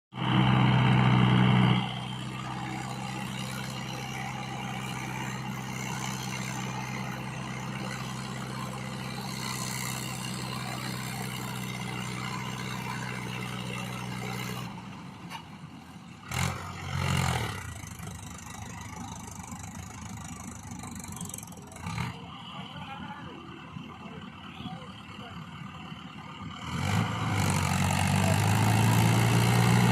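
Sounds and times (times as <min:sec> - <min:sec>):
tractor diesel engine running: 0:00.1 - 0:29.9.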